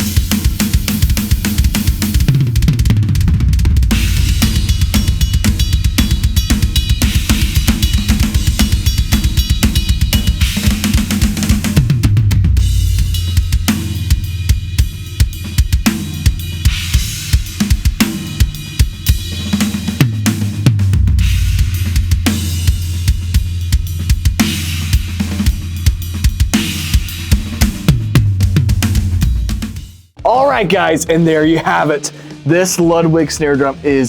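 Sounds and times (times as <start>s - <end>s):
drum kit playing: 0.0s - 34.0s.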